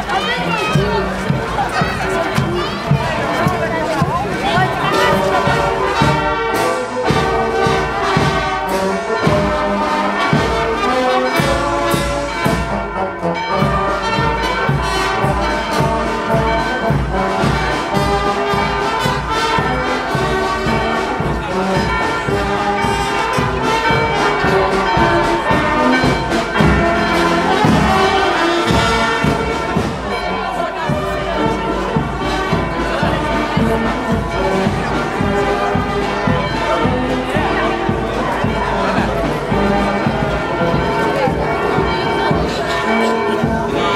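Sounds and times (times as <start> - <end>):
brass band playing: 0.0 - 43.9.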